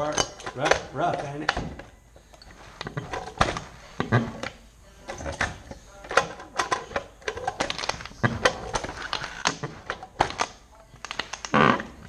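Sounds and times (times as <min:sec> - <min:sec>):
hand tools clacking and knocking: 0:00.0 - 0:11.8.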